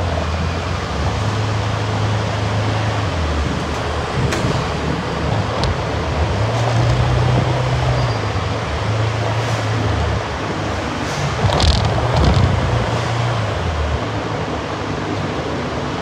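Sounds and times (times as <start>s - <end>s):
car engine hum: 0.0s - 16.0s
road and wind noise: 0.0s - 16.0s.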